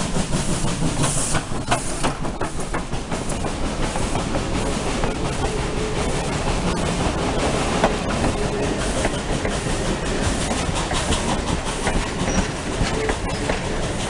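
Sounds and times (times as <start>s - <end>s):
train wheels rumbling on rail: 0.0s - 14.0s
wheels clicking over rail joints: 0.2s - 14.0s.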